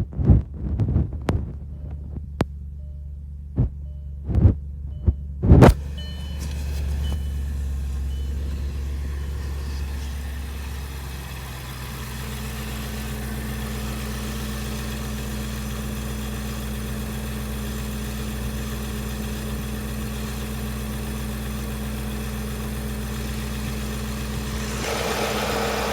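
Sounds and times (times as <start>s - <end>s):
car engine idling: 1.4s - 25.9s.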